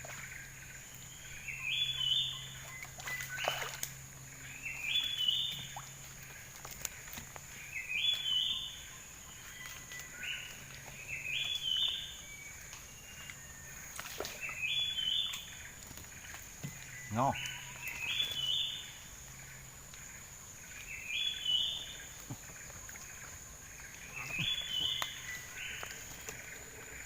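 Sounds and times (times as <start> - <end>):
bird calling: 0.0 - 27.0.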